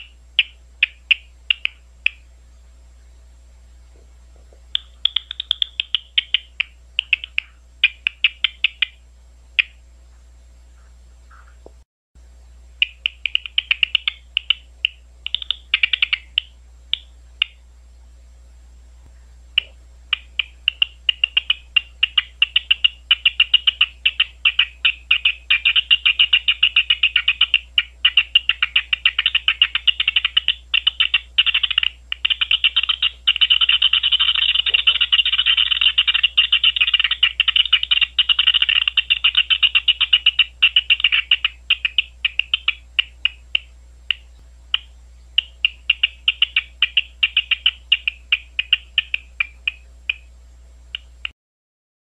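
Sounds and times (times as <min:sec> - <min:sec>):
bat echolocation clicks: 0:00.0 - 0:02.2, 0:04.7 - 0:09.0, 0:12.8 - 0:17.6, 0:19.6 - 0:50.3, 0:50.9 - 0:51.3.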